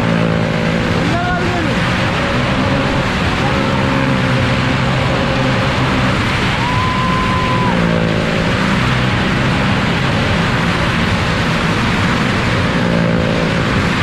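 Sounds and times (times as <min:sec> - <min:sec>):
loud layered engine drone: 0:00.0 - 0:14.0.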